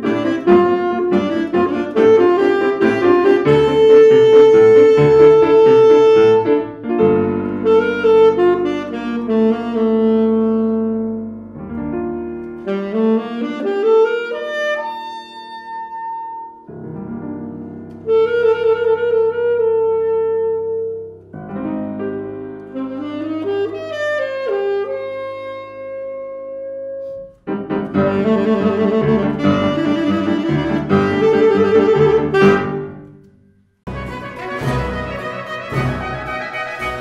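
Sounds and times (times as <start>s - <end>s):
alto saxophone jazz melody: 0.0s - 37.0s
grand piano chords: 0.0s - 37.0s.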